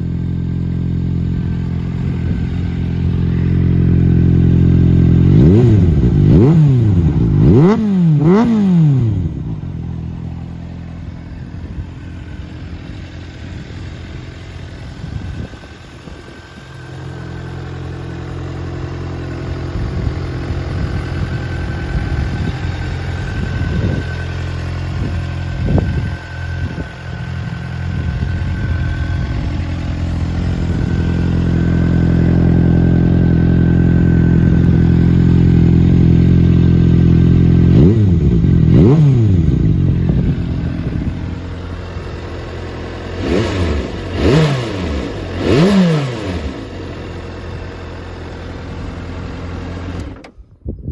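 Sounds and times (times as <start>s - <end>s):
motorcycle engine revving: 0.0s - 50.3s
motorcycle engine idling: 0.0s - 50.9s.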